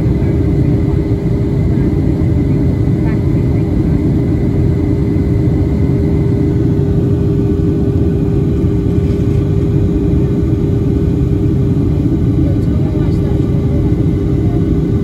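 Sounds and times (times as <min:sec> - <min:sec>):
aircraft cabin rumble: 0:00.0 - 0:15.0
constant low hum: 0:00.0 - 0:15.0.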